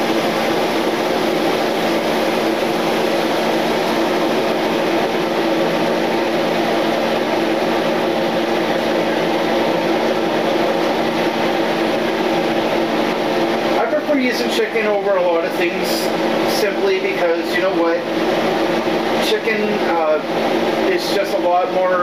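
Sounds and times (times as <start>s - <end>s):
exhaust fan whirring: 0.0s - 22.0s.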